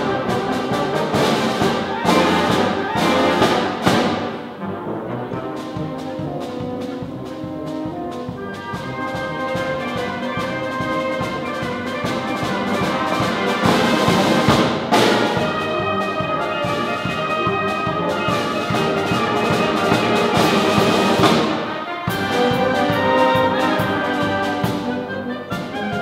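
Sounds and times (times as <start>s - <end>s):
concert band playing: 0.0s - 26.0s.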